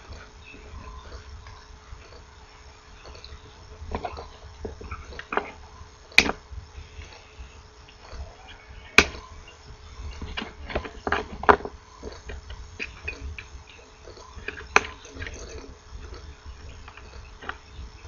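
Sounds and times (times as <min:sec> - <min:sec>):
handling clicks and rustles: 0:00.0 - 0:18.0.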